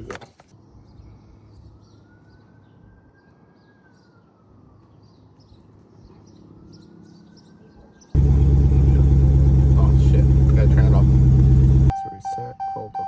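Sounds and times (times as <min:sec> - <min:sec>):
small birds chirping: 0:00.5 - 0:11.9
distant siren wailing: 0:01.7 - 0:13.0.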